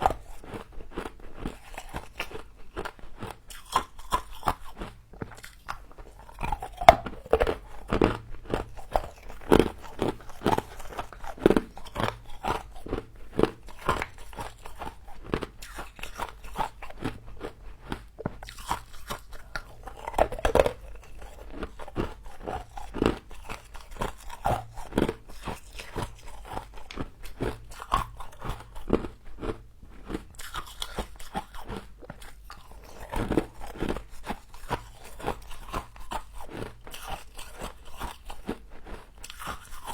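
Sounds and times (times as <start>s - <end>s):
biting and chewing frost: 0.0s - 39.9s.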